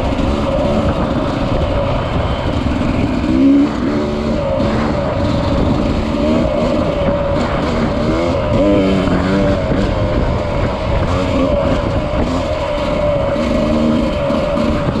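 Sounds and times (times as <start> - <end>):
mountain bike riding on trail: 0.0 - 15.0.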